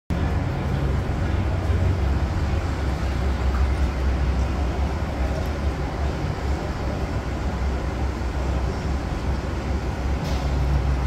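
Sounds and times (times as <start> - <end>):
steady low rumble: 0.1 - 11.0.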